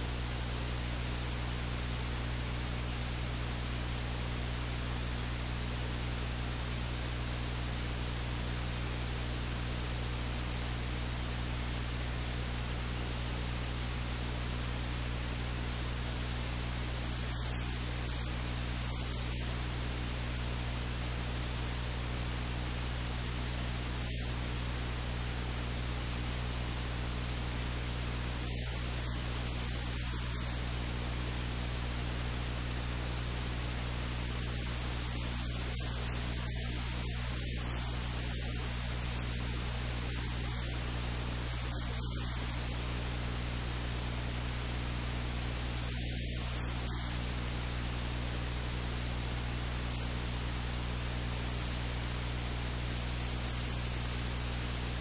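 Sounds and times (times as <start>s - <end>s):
electrical hiss: 0.0s - 55.0s
low mains hum: 0.0s - 55.0s.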